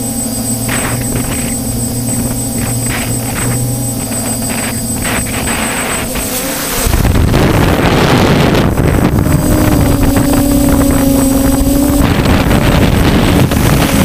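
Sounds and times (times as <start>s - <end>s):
drone motors and propellers humming: 0.0s - 14.0s.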